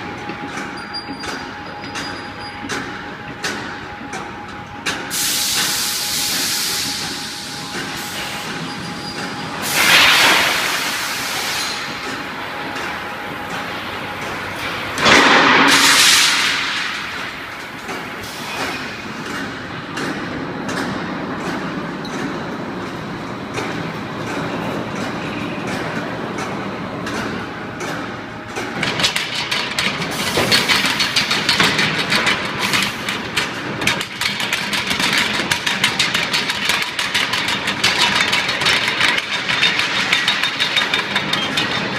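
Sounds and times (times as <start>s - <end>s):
machinery clattering: 0.0s - 41.9s.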